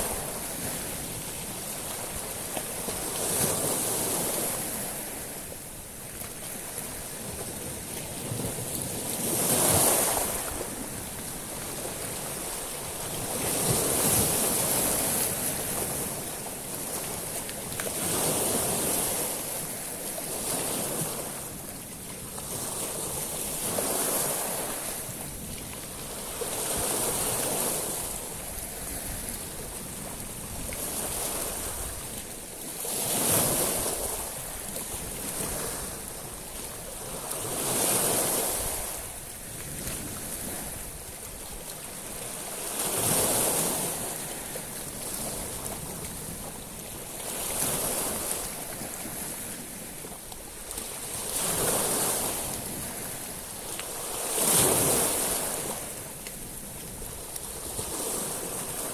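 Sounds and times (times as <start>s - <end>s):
waves washing onto shingle beach: 0.0s - 58.9s.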